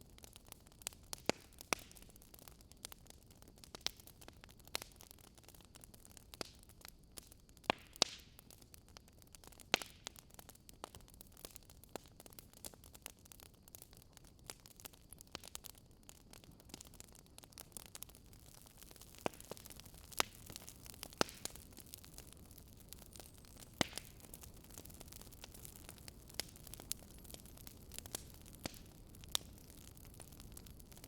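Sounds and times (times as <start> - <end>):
campfire crackling and popping: 0.0 - 31.0
faint steady hiss: 0.0 - 31.0.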